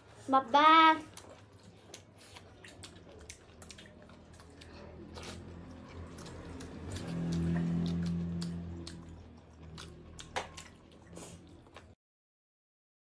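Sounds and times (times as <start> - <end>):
mouths chewing: 1.0 - 12.0
fingers squishing rice and curry: 1.1 - 11.9.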